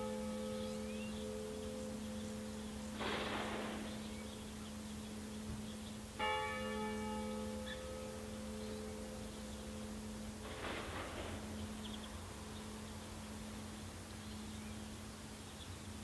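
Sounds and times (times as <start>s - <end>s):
church bell tolling: 0.0s - 13.7s.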